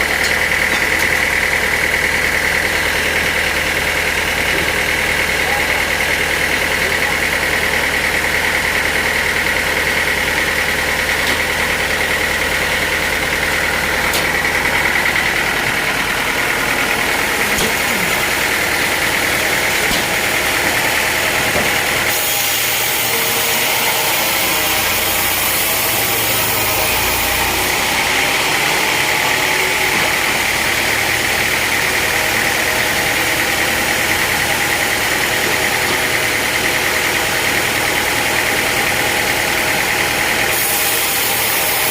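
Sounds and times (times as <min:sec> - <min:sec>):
saw whining: 0:08.0 - 0:41.9.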